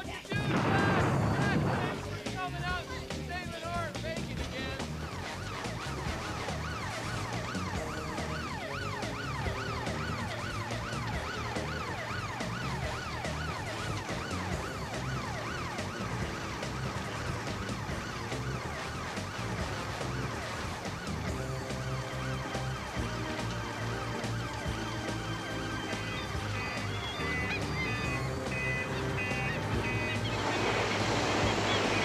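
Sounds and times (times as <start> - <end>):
background music: 0.0 - 32.0
emergency vehicle siren: 0.5 - 2.1, 4.6 - 32.0.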